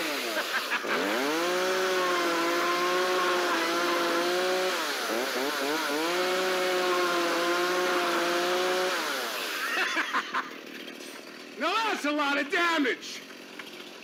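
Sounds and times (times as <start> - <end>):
chainsaw cutting plastic bucket: 0.0 - 11.6, 13.2 - 14.0.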